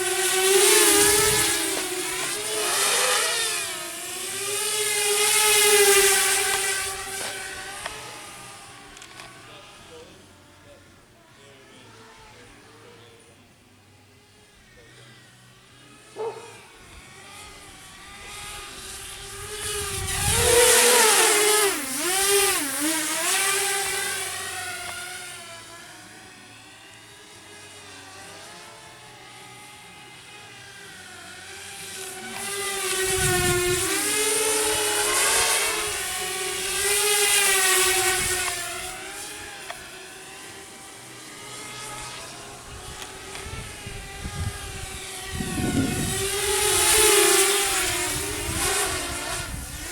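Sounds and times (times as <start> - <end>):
quadcopter motors whining: 0.0 - 49.9.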